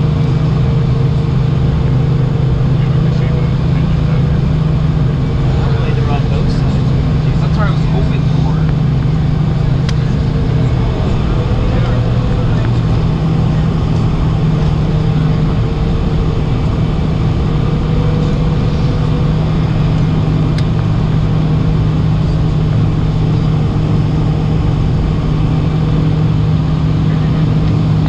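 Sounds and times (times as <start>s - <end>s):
airplane cabin drone: 0.0s - 28.0s.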